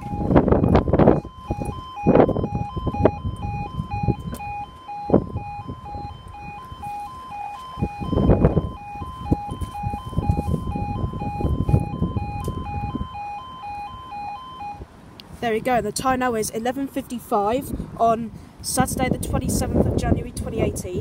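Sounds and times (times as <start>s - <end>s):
level crossing alarm warbling: 0.0s - 17.7s
low buffeting rumble: 0.0s - 21.0s.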